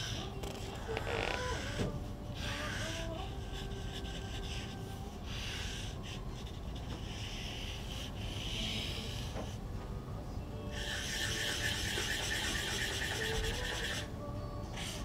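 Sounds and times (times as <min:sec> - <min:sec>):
pen scratching on paper: 0:00.0 - 0:09.6, 0:10.8 - 0:14.1
low background hum: 0:00.0 - 0:15.0.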